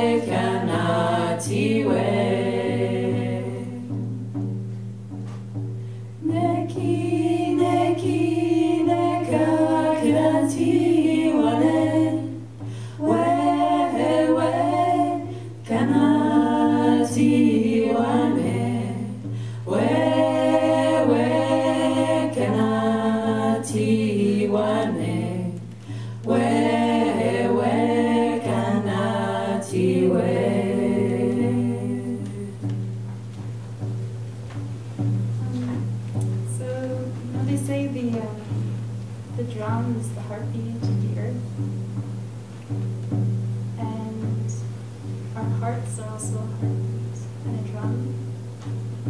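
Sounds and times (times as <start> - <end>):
women singing together: 0.0 - 4.4, 6.2 - 33.0, 35.4 - 38.7, 39.3 - 41.6, 45.4 - 48.4.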